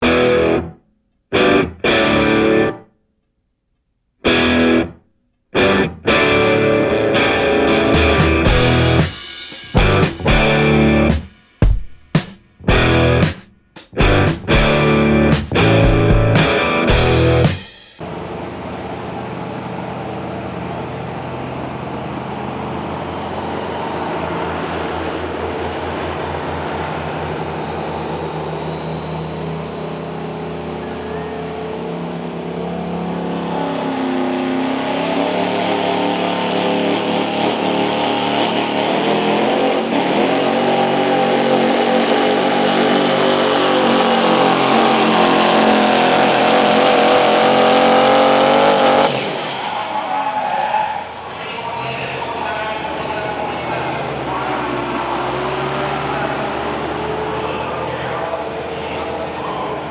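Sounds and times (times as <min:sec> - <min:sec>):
diesel truck engine revving: 0:05.6 - 0:11.2, 0:12.6 - 0:13.3, 0:14.0 - 0:59.9.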